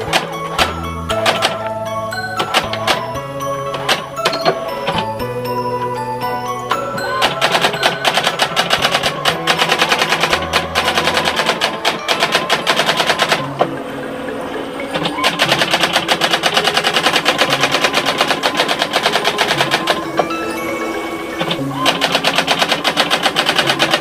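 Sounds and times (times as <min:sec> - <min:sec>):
daisywheel typewriter clattering: 0:00.0 - 0:05.2, 0:06.7 - 0:13.6, 0:14.9 - 0:20.4, 0:21.0 - 0:24.0.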